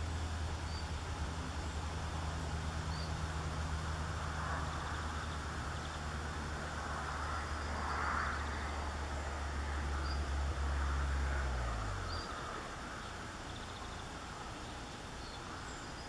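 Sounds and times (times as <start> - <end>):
buzzing warbler song: 0.0 - 16.0
low engine drone: 0.0 - 16.0.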